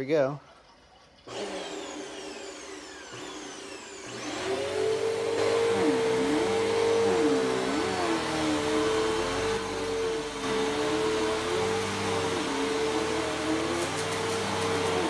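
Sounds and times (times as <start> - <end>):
vacuum cleaner running on carpet: 1.3 - 15.0.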